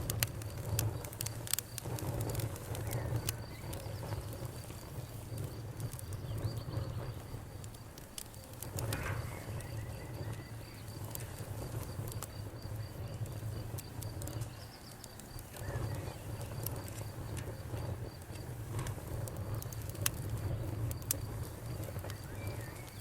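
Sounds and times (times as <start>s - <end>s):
campfire crackling: 0.0s - 23.0s
insect chirping: 0.3s - 18.2s, 20.4s - 23.0s.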